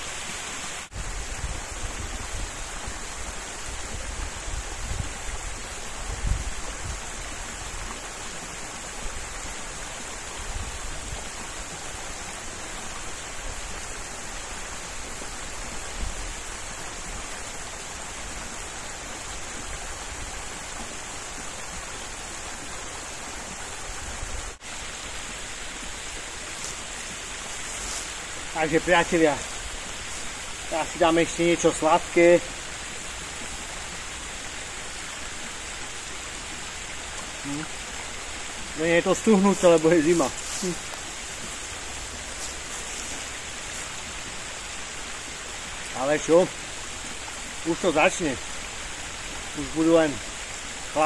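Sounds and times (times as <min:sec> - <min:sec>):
brook water rushing: 0:00.0 - 0:51.0.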